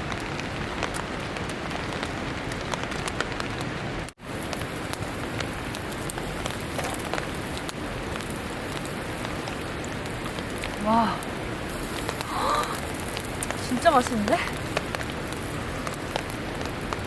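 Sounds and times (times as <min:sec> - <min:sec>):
rain falling: 0:00.0 - 0:17.0
raindrops ticking on a surface: 0:00.0 - 0:17.0.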